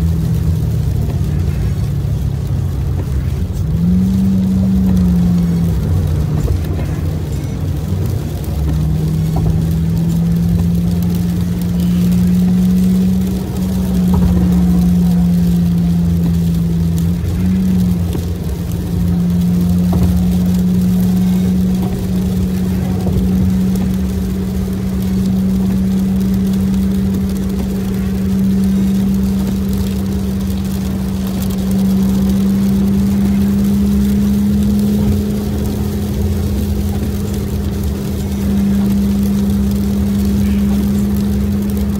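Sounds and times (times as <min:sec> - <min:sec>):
car engine drone: 0:00.0 - 0:41.9
tyre noise on wet road: 0:00.0 - 0:41.9.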